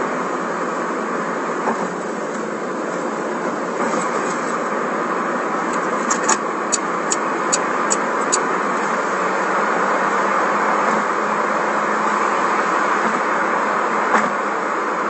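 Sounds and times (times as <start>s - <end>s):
car cabin road and engine noise: 0.0s - 15.0s.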